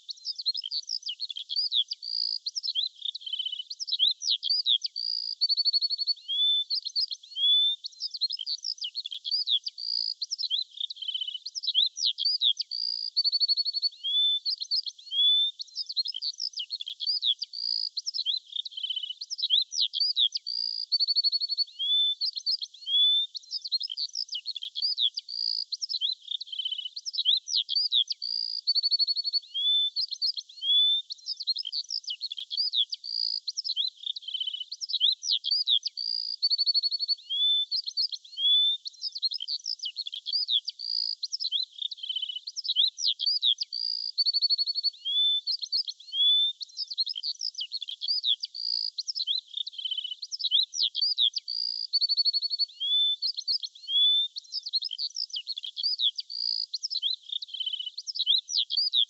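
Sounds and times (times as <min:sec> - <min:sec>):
songbirds chirping and whistling: 0:00.0 - 0:59.0.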